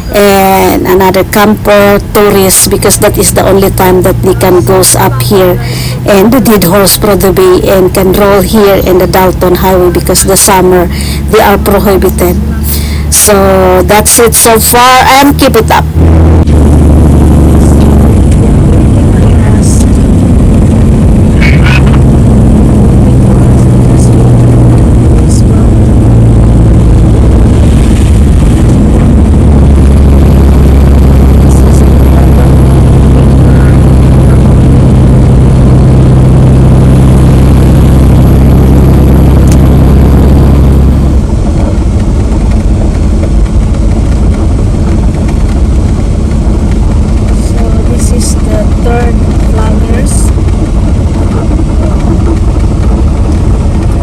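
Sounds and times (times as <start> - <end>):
road noise: 0.0 - 54.0
truck engine drone: 0.0 - 54.0.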